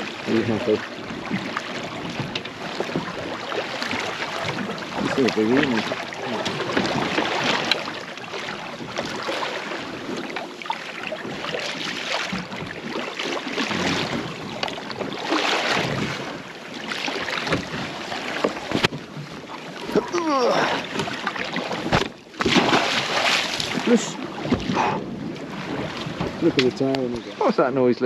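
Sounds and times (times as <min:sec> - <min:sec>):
water washing against hull: 0:00.0 - 0:28.0.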